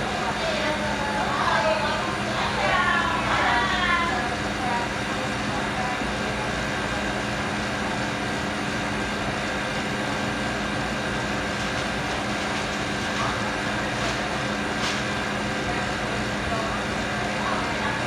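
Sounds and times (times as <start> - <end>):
kitchen machinery humming: 0.0 - 18.0.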